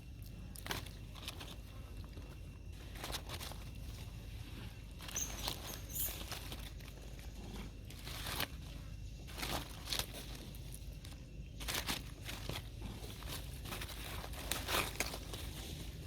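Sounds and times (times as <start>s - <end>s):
crinkling and crunching: 0.0s - 16.0s
low steady rumble: 0.0s - 16.0s.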